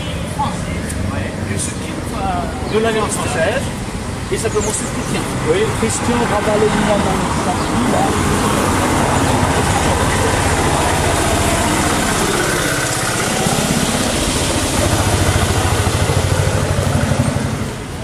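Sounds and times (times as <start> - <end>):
auto-rickshaw engine puttering: 1.6 - 18.0.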